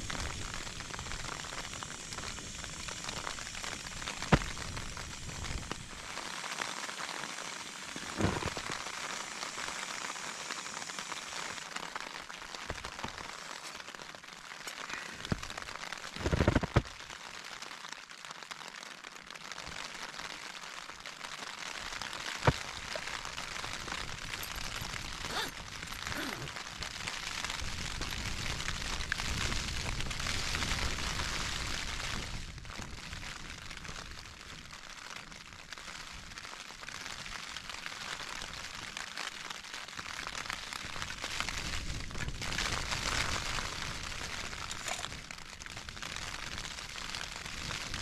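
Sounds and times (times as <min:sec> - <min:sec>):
heavy rain on tent fabric: 0:00.0 - 0:48.0.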